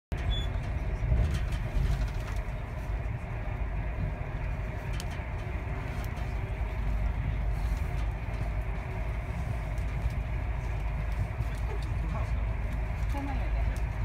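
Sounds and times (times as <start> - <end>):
train rumble inside carriage: 0.1 - 14.0.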